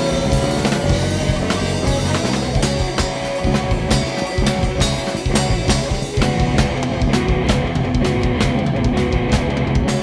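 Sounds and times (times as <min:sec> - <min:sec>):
drum kit beat: 0:00.0 - 0:10.0
rock band playing: 0:00.0 - 0:10.0.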